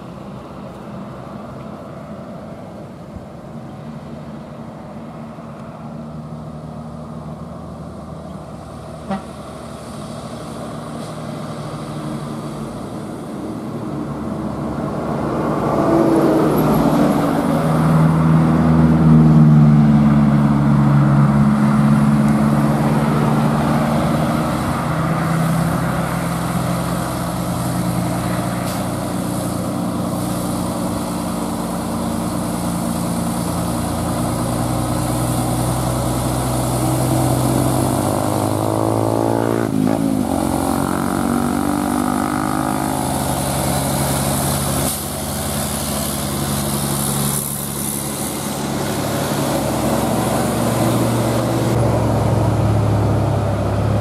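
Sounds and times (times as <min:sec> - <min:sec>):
diesel trucks passing: 0:00.0 - 0:54.0.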